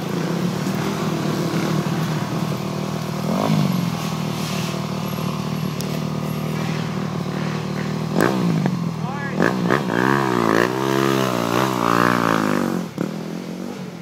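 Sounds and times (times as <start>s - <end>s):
dirt bike engine revving: 0.0s - 13.8s.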